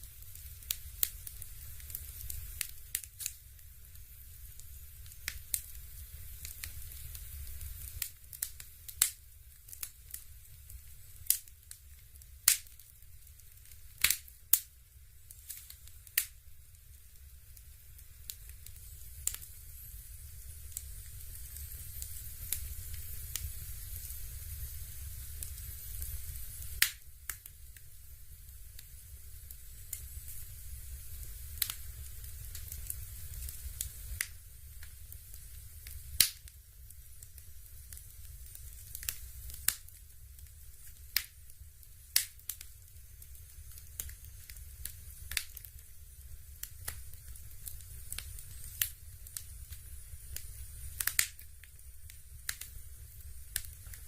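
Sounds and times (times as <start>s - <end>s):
electric fireplace crackles and pops: 0.0s - 54.0s
faint hiss: 0.0s - 54.0s
steady low hum: 0.0s - 54.0s.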